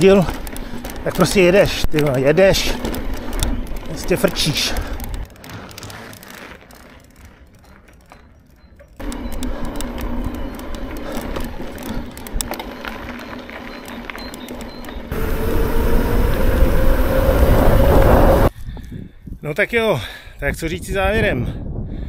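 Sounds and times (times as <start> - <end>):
bike clicking rattle: 0.0 - 18.5.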